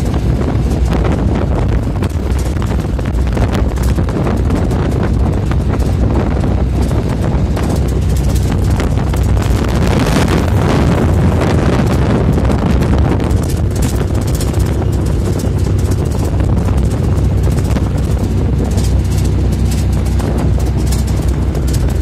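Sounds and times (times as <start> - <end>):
truck and tyres on road: 0.0 - 22.0
wind buffeting microphone: 0.0 - 22.0.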